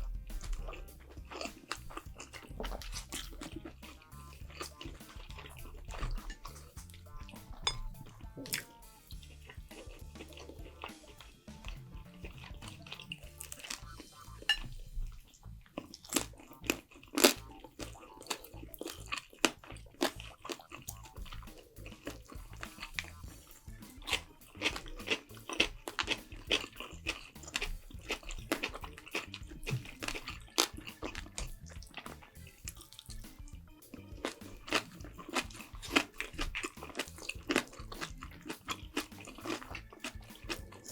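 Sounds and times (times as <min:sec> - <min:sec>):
crunching bites and chewing: 0:00.0 - 0:40.9.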